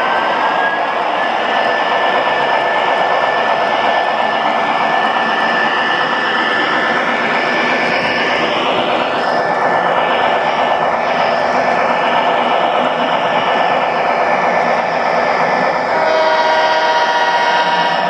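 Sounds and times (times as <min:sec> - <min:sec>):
model train wheels rushing: 0:00.0 - 0:18.0.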